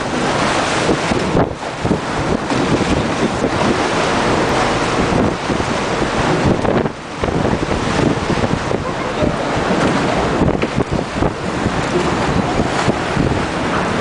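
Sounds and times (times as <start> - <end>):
open sea rushing: 0.0 - 14.0
wind buffeting microphone: 0.0 - 14.0.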